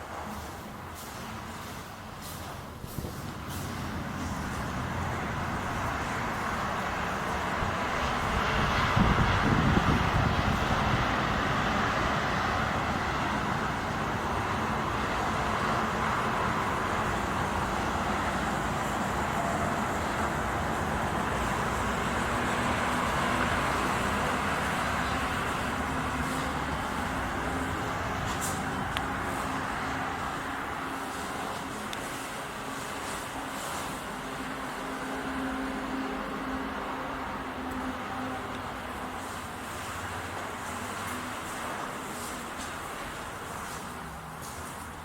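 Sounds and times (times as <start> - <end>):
road traffic noise: 0.0 - 45.0.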